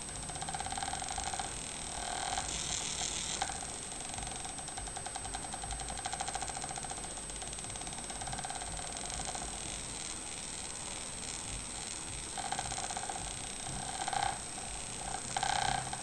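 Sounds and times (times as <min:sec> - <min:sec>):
stepper motor ticking buzz: 0:00.0 - 0:16.0.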